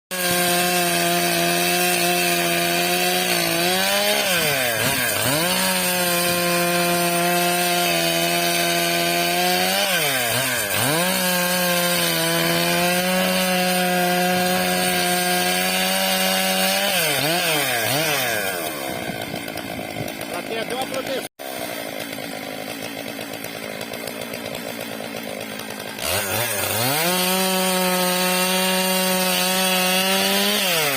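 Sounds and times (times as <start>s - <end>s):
chainsaw cutting log: 0.1s - 30.9s.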